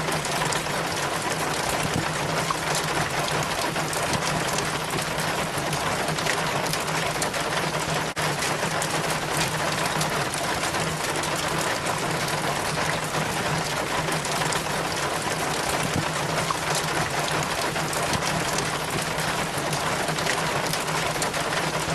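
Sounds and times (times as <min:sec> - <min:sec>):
rain water splashing down chain: 0:00.0 - 0:21.9.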